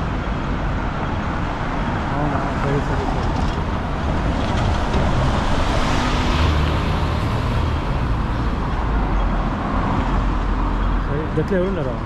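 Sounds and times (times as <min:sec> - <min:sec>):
street traffic: 0:00.0 - 0:12.0
bus driving past: 0:00.6 - 0:11.2.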